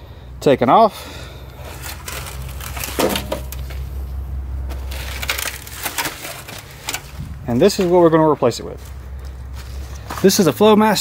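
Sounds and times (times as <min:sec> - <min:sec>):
dry leaves crunching underfoot: 0:01.6 - 0:11.0.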